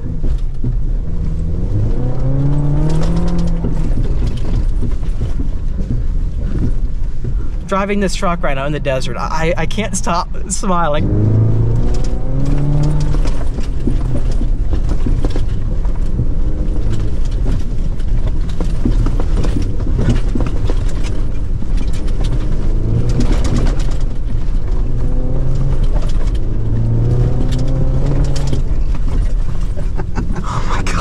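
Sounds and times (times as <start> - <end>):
engine droning: 0.0 - 31.0
knocks and rattles: 0.0 - 31.0.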